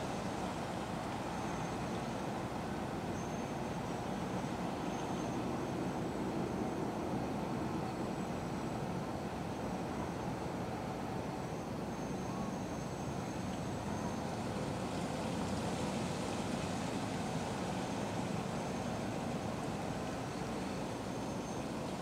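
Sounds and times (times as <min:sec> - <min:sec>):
faint thin high whine: 0:00.0 - 0:22.0.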